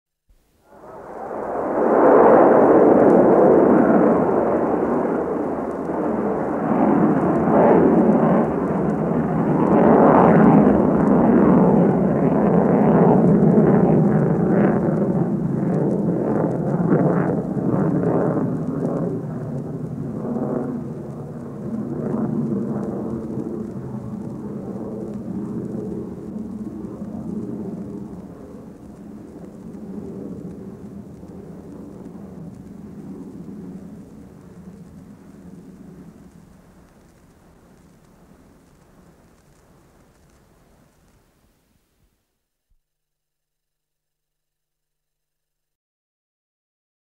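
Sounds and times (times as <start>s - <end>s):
rocket launch roar: 0.6s - 40.3s.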